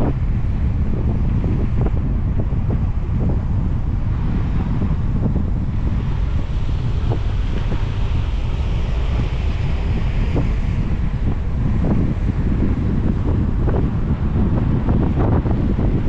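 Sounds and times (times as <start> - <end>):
road and wind noise rumble: 0.0 - 16.0.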